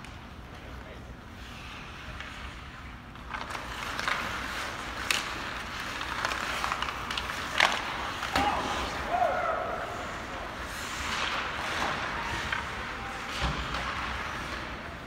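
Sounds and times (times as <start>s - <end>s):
skates scraping on ice: 0.5s - 15.0s
hockey sticks hitting puck: 1.8s - 15.0s.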